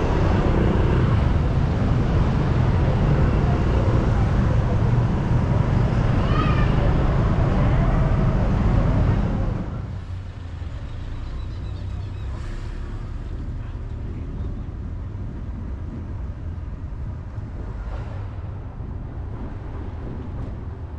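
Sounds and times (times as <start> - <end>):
low outdoor rumble: 0.0 - 20.9.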